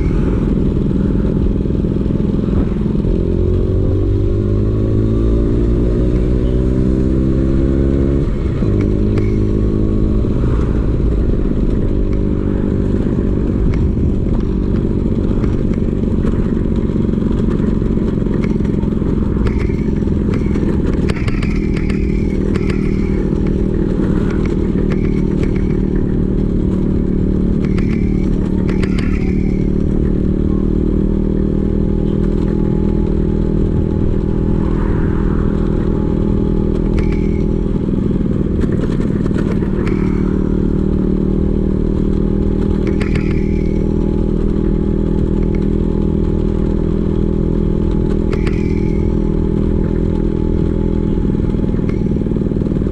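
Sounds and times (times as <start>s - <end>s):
scooter engine running steadily: 0.0s - 52.9s.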